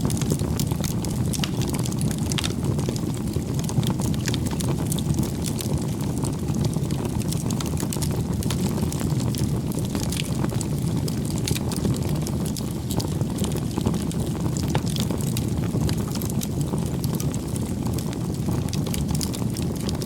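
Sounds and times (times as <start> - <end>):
bonfire flame rumbling: 0.0 - 20.0
fire crackling and popping: 0.0 - 20.0.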